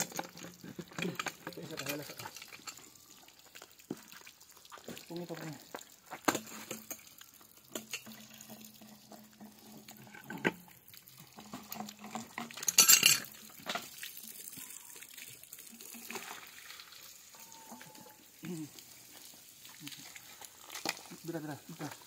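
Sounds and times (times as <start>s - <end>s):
water splashing: 0.0s - 22.0s.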